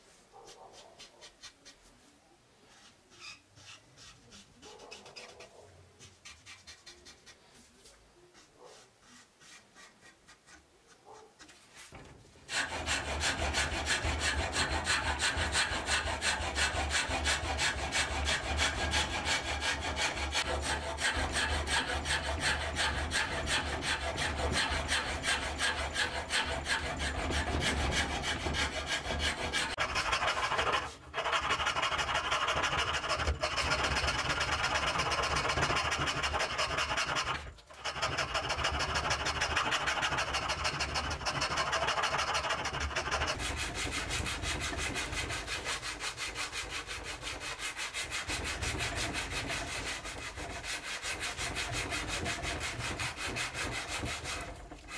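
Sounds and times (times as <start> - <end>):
metal file scraping wood: 2.6 - 54.9.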